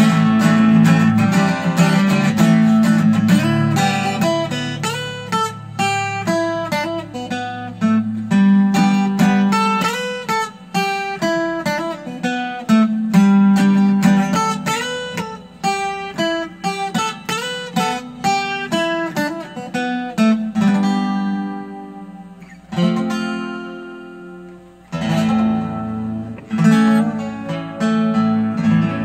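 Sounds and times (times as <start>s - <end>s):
acoustic guitar playing: 0.0s - 29.0s.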